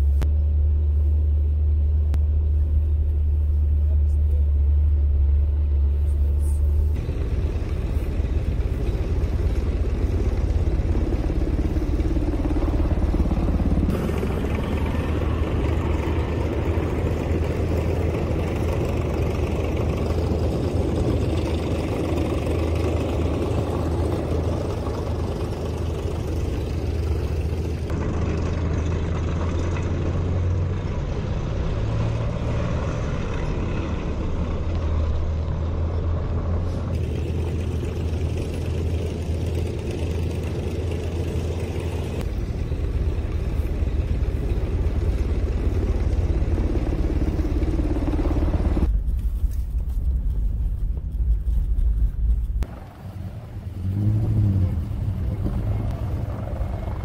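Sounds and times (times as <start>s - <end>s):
road noise: 0.0s - 57.0s
vehicle engine rumble: 0.0s - 57.0s.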